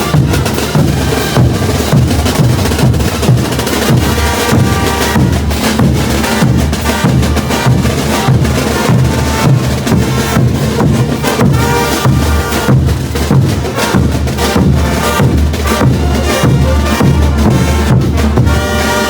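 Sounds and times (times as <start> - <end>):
bass drum and snare beat: 0.0 - 19.0
brass band playing loudly: 0.0 - 19.0.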